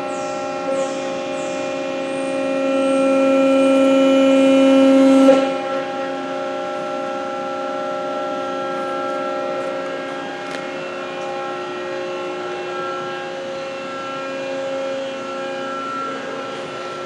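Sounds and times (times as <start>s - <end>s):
hydraulic pump whine: 0.0s - 17.0s.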